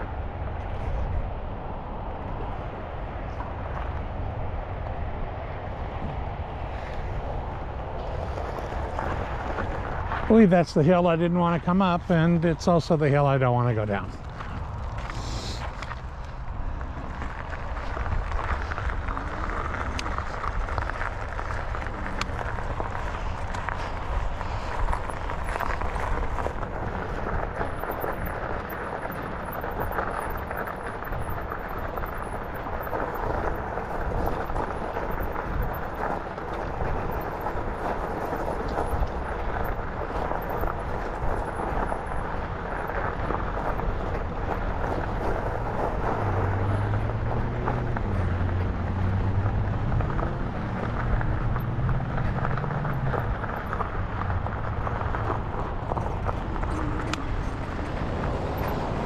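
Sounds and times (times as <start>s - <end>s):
bicycle tyre noise: 0.0s - 59.0s.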